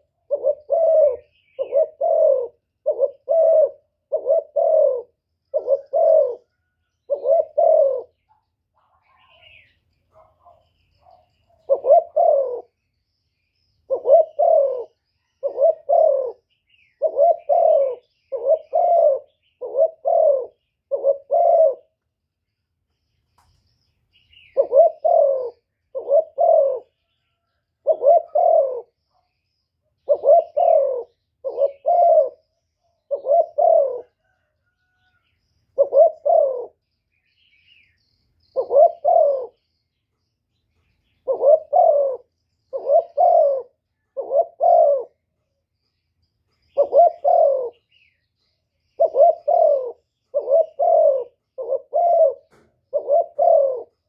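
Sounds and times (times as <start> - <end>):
dove cooing: 0.0 - 12.9, 13.8 - 22.0, 24.3 - 36.9, 37.7 - 39.8, 40.8 - 45.5, 46.5 - 54.0.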